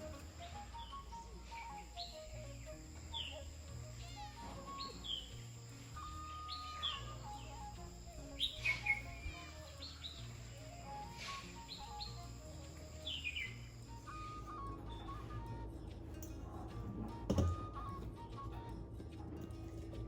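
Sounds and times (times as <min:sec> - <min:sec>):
small birds chirping: 0:00.0 - 0:20.0
soft background music: 0:00.0 - 0:20.0.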